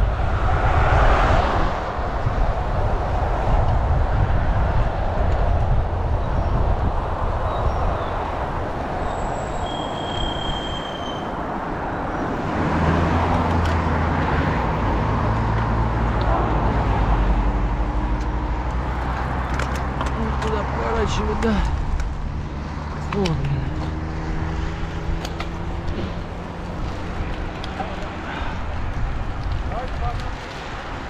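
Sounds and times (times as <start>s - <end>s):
bicycle tyre and road noise: 0.0s - 31.0s
wind buffeting microphone: 0.0s - 31.0s.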